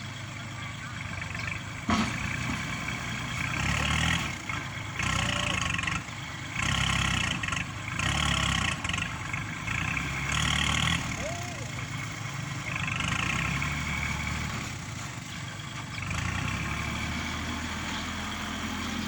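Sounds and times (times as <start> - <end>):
tractor diesel engine working: 0.0 - 19.0.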